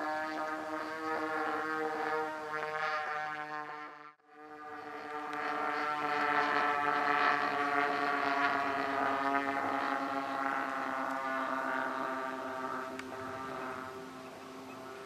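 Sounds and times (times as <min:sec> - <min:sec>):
model airplane engines droning: 0:00.0 - 0:15.0.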